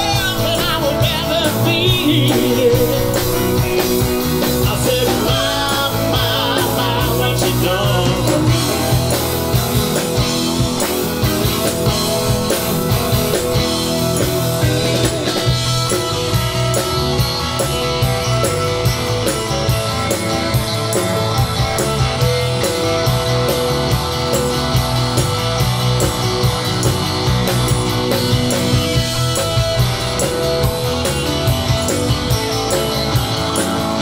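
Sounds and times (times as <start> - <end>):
live rock band playing: 0.0 - 34.0
tambourine: 0.0 - 34.0.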